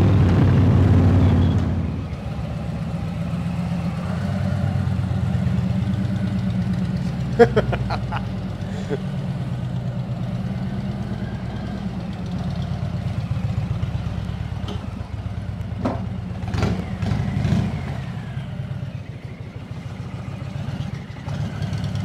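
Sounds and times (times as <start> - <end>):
motorcycle engine burbling: 0.0 - 22.0.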